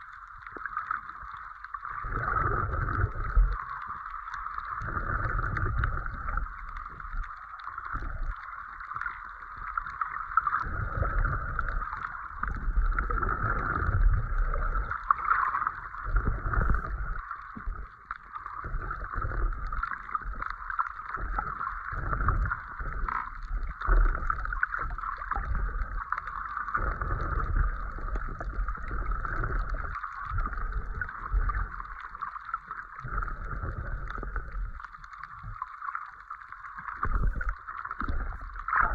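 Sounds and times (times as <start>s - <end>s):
steady underwater hiss: 0.0s - 38.9s
underwater water rumbles and surges: 0.0s - 38.9s.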